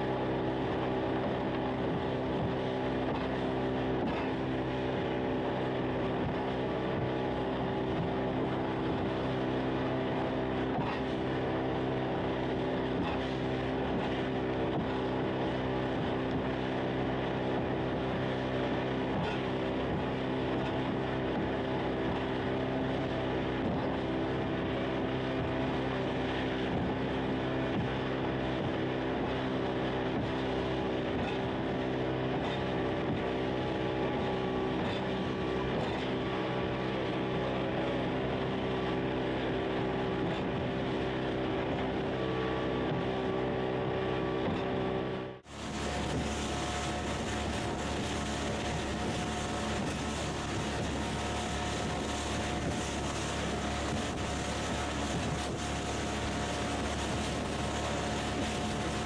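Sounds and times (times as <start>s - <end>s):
motorboat engine running: 0.0s - 59.0s.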